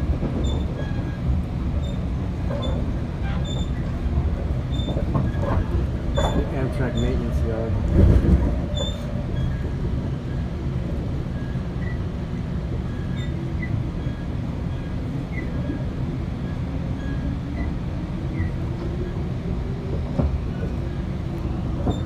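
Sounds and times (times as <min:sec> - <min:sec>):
train rumble inside coach: 0:00.0 - 0:22.0.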